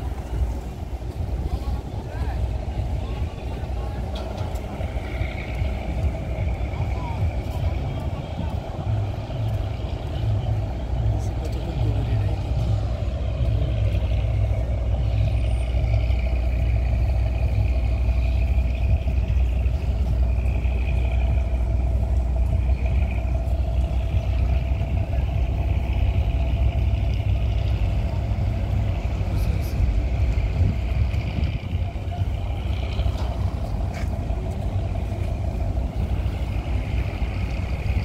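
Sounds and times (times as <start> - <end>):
ship diesel engine droning: 0.0 - 38.0.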